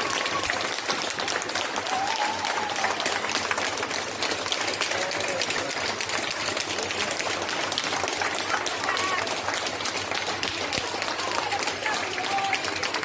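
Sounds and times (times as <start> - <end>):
crowd applause: 0.0 - 13.0.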